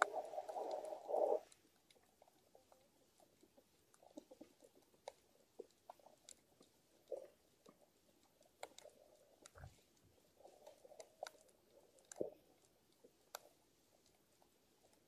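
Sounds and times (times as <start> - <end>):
soft underwater clicks and pops: 0.0 - 15.0.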